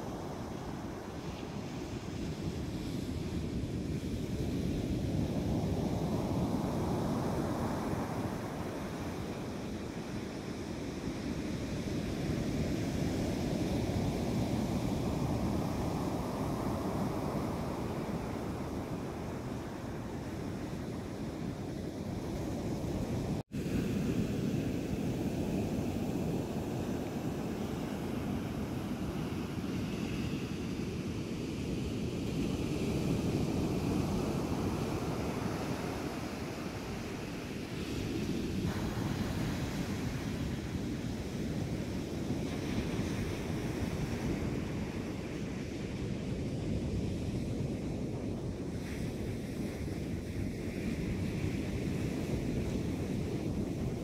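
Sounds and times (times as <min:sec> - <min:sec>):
surf washing up a sandy beach: 0:00.0 - 0:54.0.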